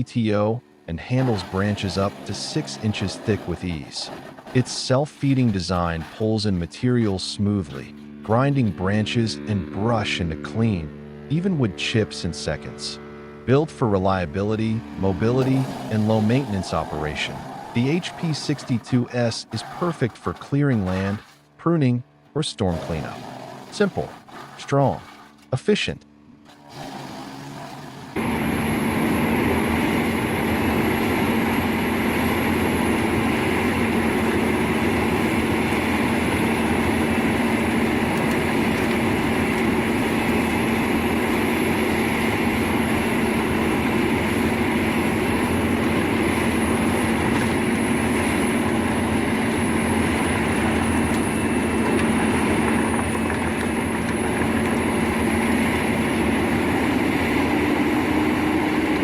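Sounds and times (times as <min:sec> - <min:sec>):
wood chipper running: 0:00.0 - 0:21.6, 0:22.7 - 0:59.0.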